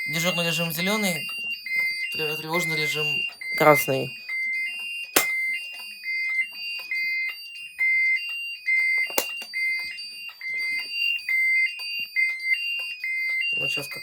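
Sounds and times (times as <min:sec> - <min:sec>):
alarm sounder two-tone beeping: 0:00.0 - 0:14.0.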